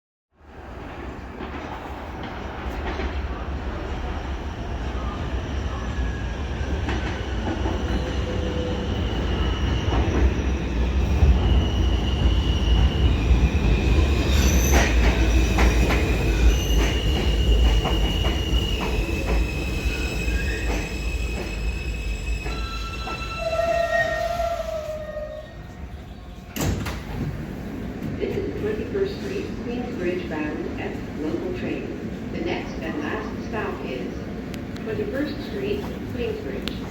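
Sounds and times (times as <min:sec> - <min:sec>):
subway train rumble: 0:00.4 - 0:36.9.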